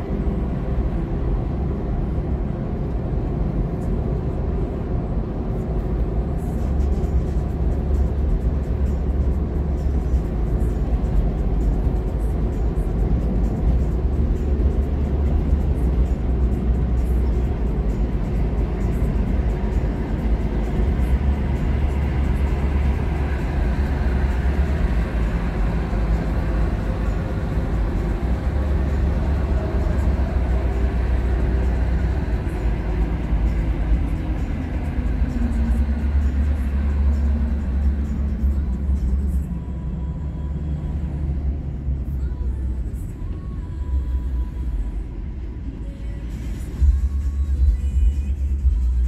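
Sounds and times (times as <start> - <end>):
deep engine drone: 0.0 - 49.0
road noise: 0.0 - 49.0.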